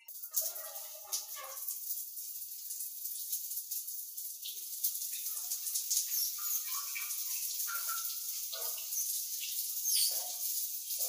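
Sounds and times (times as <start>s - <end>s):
shower water spraying: 0.0s - 11.0s.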